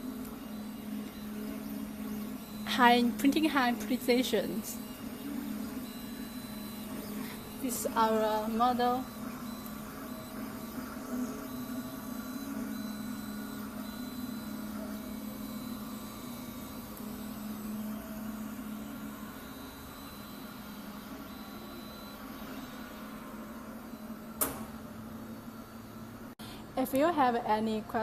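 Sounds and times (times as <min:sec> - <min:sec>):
printer hum: 0:00.0 - 0:28.0.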